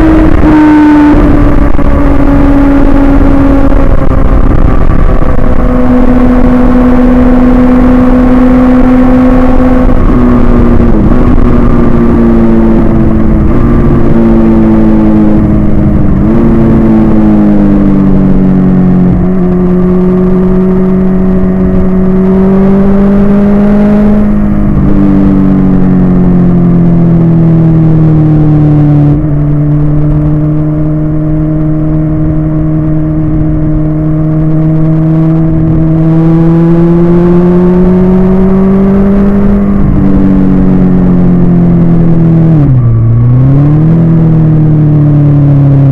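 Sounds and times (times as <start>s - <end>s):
motorcycle engine at cruising speed: 0.0s - 45.9s.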